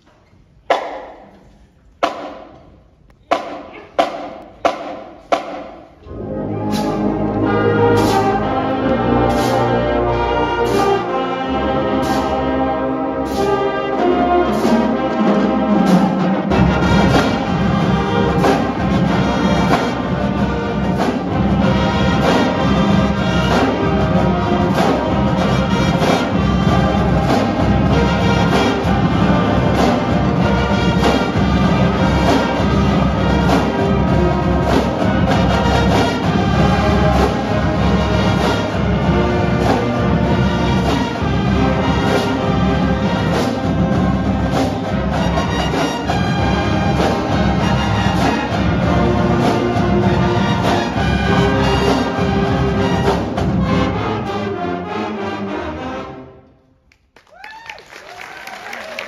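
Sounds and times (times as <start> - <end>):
school band playing: 0.0 - 56.8.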